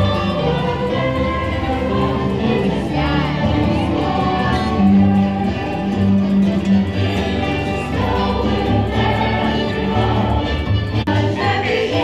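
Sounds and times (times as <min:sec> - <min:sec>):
choir singing: 0:00.0 - 0:12.0
instrumental music: 0:00.0 - 0:12.0.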